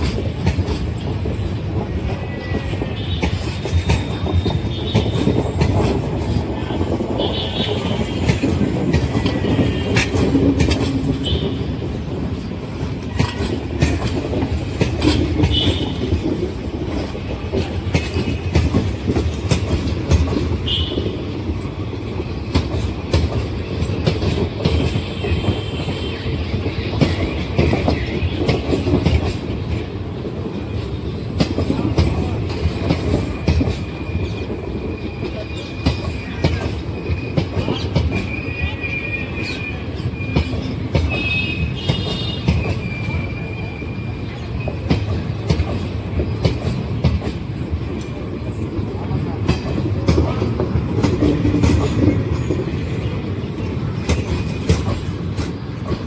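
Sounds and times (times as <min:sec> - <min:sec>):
train coaches rumbling past: 0:00.0 - 0:56.0.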